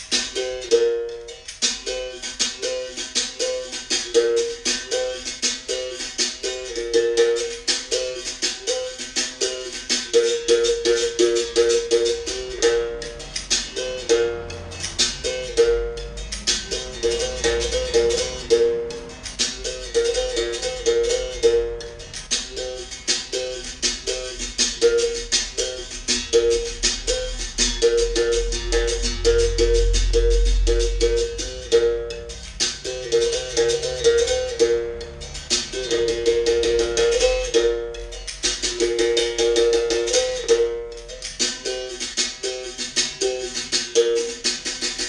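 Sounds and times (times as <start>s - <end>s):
berimbau string strikes: 0.0s - 45.0s.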